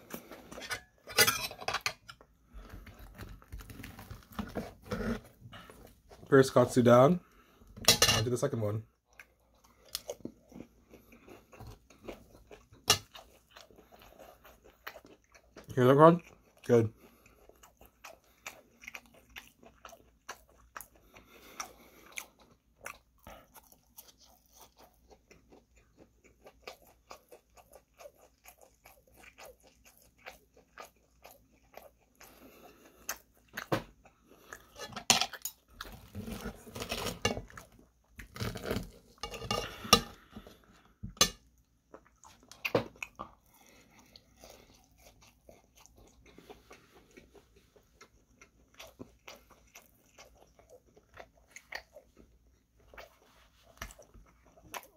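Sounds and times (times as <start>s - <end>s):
chewing crispy food: 0.0s - 54.9s.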